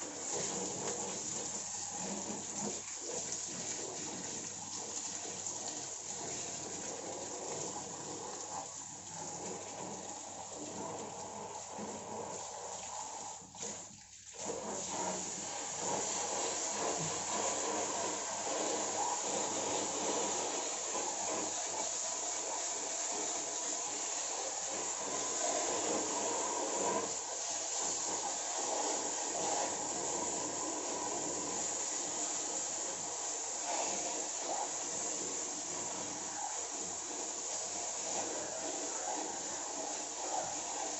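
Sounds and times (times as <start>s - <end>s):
water spraying from a hose: 0.0s - 40.9s.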